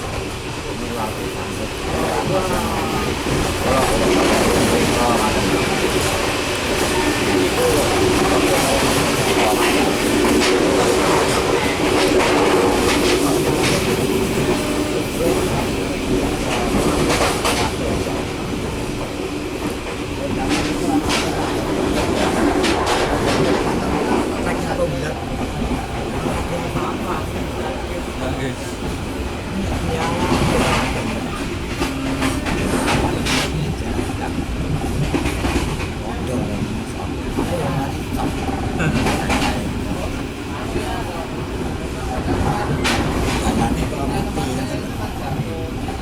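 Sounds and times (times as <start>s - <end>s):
train rumble: 0.0s - 46.0s.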